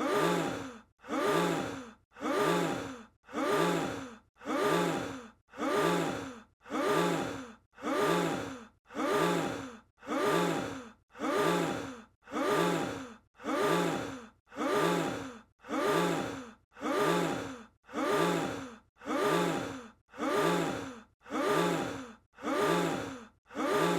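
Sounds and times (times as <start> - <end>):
breathy vocal sound effect: 0.0 - 23.9.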